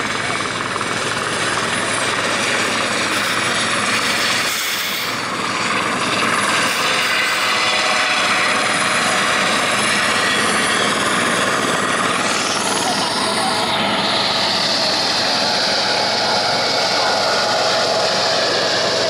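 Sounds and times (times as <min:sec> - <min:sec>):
helicopter flying low: 0:00.0 - 0:19.0.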